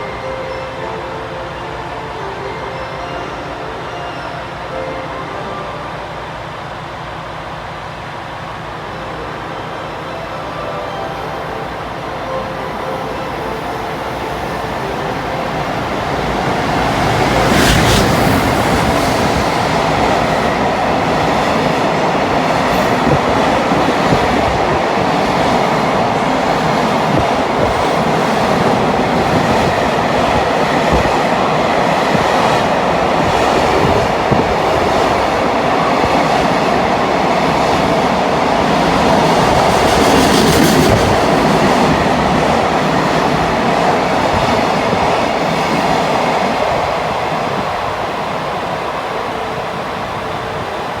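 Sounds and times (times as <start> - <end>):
train wheels rumbling on rails: 1.5 - 51.0.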